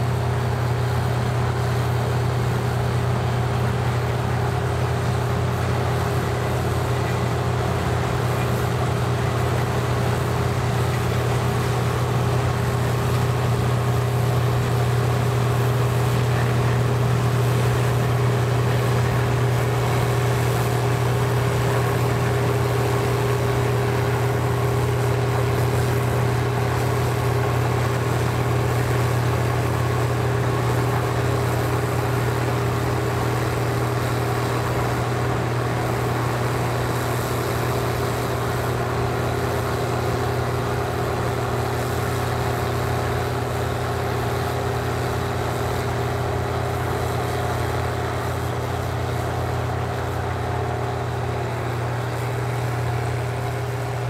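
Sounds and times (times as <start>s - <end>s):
combine harvester droning: 0.0s - 54.0s.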